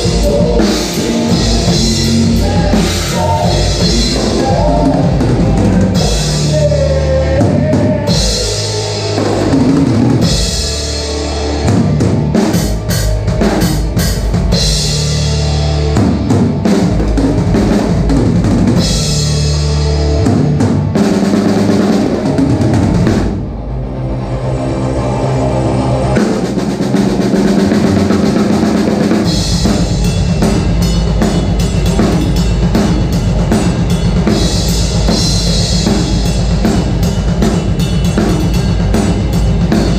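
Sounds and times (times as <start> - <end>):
drum kit: 0.0 - 23.8, 25.2 - 39.9
band music: 0.0 - 39.9
low bass notes: 0.0 - 39.9.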